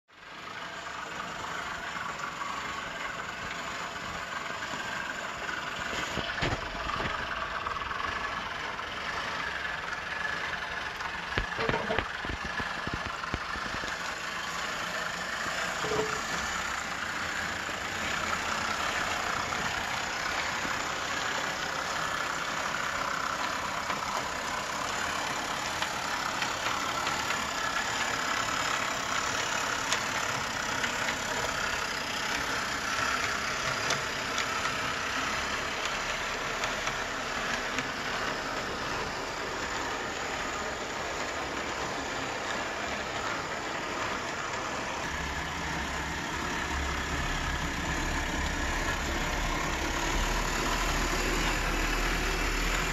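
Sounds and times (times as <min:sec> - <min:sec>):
wheels rolling on rails: 0:00.1 - 0:52.9
model train motor whirring: 0:00.2 - 0:52.9.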